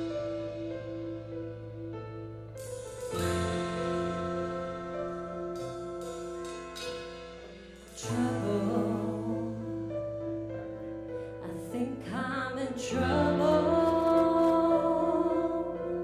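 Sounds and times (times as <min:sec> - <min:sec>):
keyboard playing held chords: 0:00.0 - 0:16.0.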